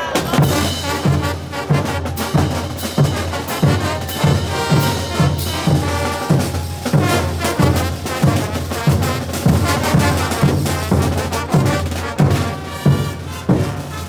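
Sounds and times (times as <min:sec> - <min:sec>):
brass band playing: 0:00.0 - 0:14.0
bass drum beat: 0:00.2 - 0:13.9.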